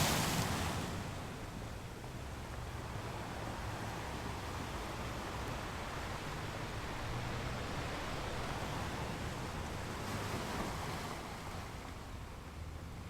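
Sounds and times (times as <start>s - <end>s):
ocean waves washing onto beach: 0.0s - 12.4s.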